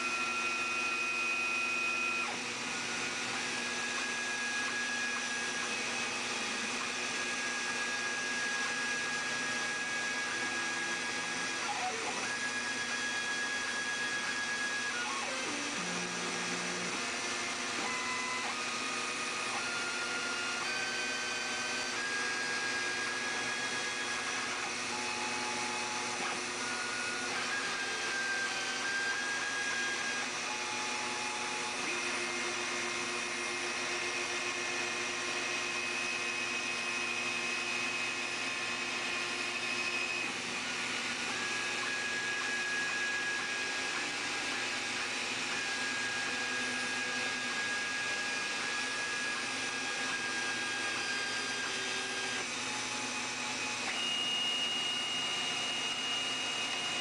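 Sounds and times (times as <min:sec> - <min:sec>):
spiral saw cutting: 0:00.0 - 0:57.0
stepper motors whining: 0:00.0 - 0:57.0.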